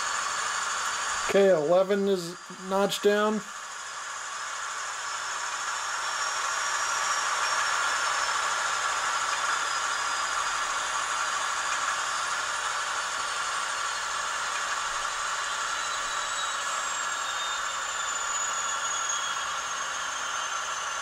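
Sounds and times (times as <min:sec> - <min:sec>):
model train diesel engine sound: 0:00.0 - 0:21.0.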